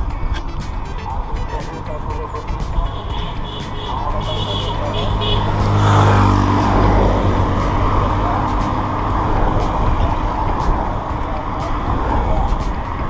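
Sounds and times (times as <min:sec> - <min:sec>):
cars passing: 0:00.0 - 0:13.0
large vehicle passing close: 0:00.0 - 0:13.0
wind and road noise: 0:00.0 - 0:13.0.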